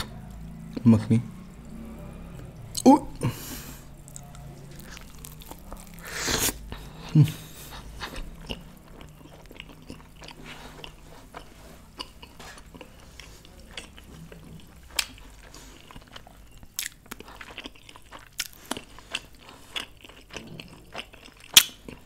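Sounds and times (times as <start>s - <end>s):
chewing food: 0.0s - 22.0s.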